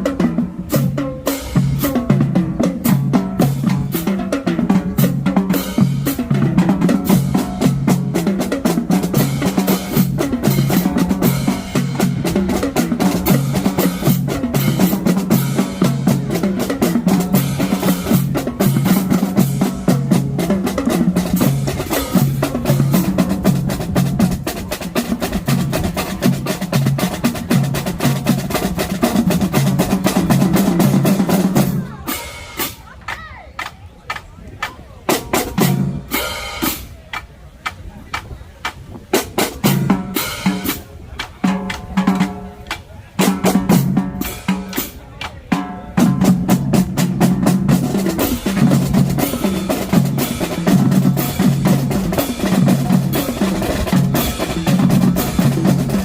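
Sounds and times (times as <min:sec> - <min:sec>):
marching bass drums: 0:00.0 - 0:56.0
snare drum strokes and rolls: 0:00.0 - 0:56.0.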